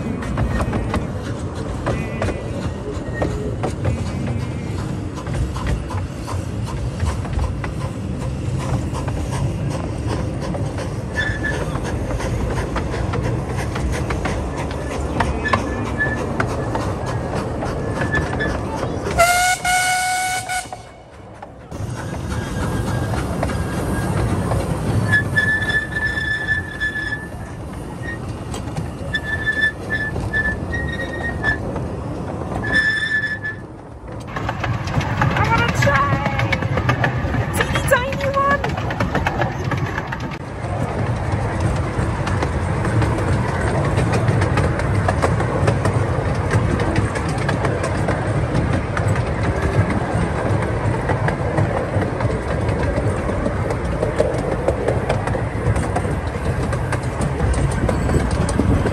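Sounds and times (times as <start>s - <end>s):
wheels clicking over rails: 0.0s - 19.7s, 20.7s - 58.9s
miniature train rumbling: 0.0s - 58.9s.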